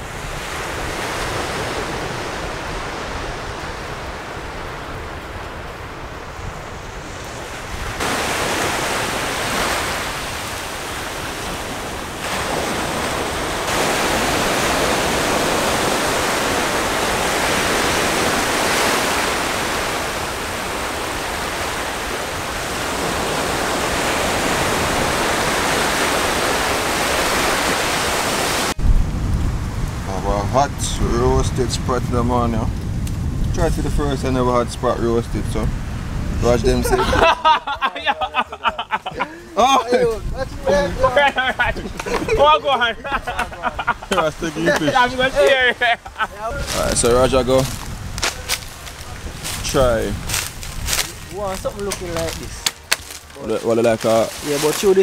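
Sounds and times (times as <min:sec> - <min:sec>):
sea surf breaking: 0:00.0 - 0:55.0
wind on microphone: 0:00.0 - 0:55.0.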